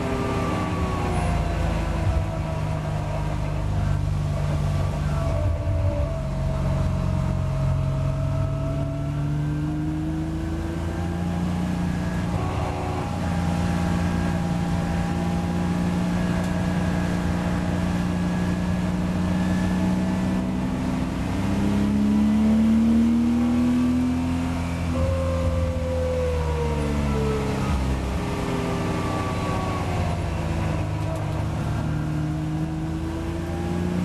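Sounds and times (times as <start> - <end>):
race car engine accelerating: 0.0 - 34.0.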